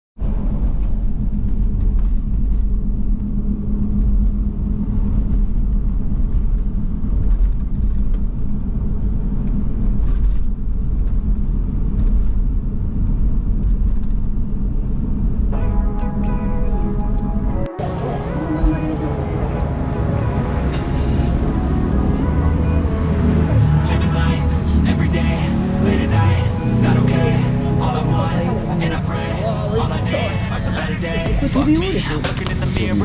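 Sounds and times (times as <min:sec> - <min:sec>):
constant low hum: 0:00.2 - 0:33.0
motor vehicle rumble: 0:00.2 - 0:33.0.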